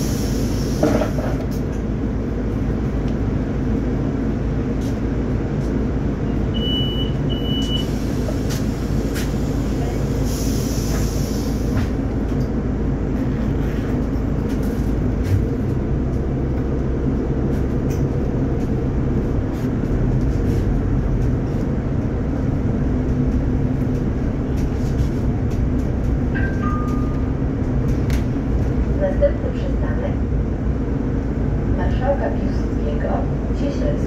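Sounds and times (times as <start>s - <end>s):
road and body rattle: 0.0s - 6.5s, 7.2s - 34.0s
bus drivetrain hum: 0.0s - 34.0s.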